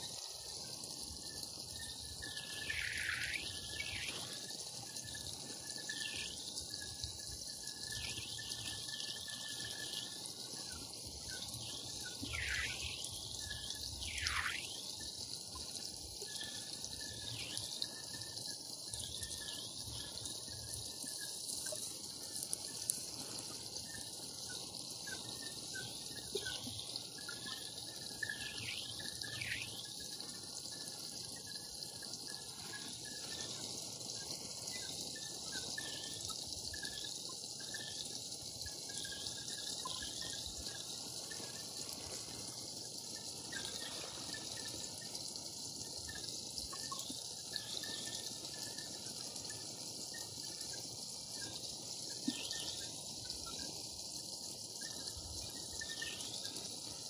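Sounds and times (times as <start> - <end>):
creek trickling over rocks: 0.0 - 57.0.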